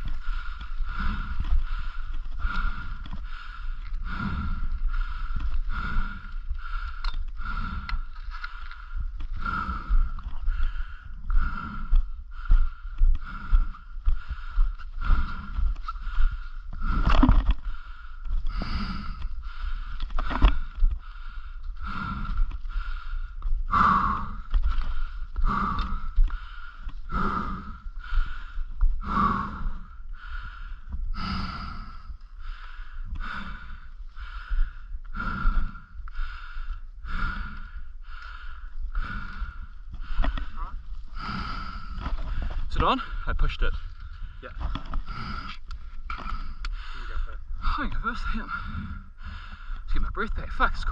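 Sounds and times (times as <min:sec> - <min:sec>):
person panting hard: 0:00.0 - 0:50.9
steady low rumble: 0:00.0 - 0:50.9.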